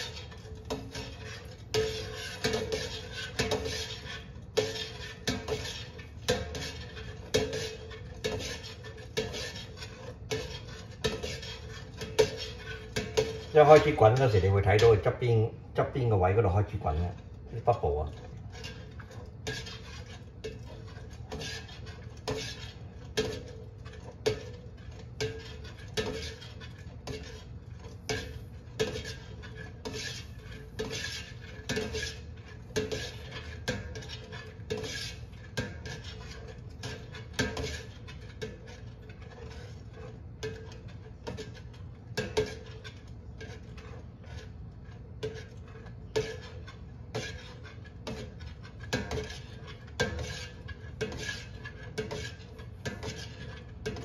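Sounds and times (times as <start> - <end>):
metal spoon scraping and knocking pot: 0.0 - 54.0.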